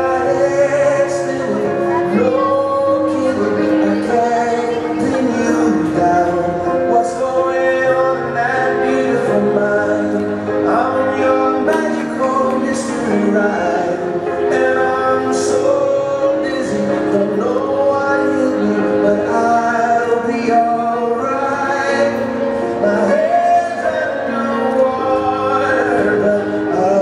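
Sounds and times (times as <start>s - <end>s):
song over loudspeakers: 0.0s - 27.0s.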